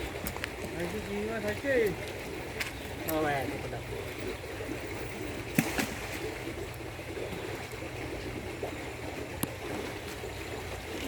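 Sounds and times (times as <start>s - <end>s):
water trickling and sloshing: 0.0s - 11.0s.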